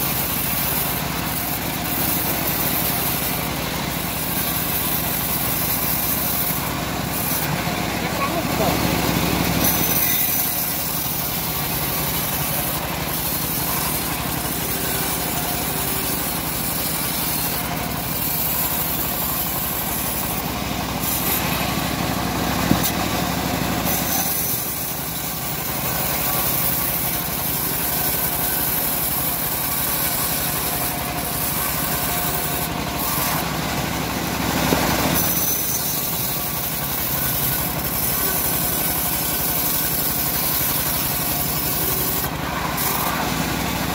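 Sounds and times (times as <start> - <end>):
bandsaw sawmill sawing logs: 0.0 - 43.9.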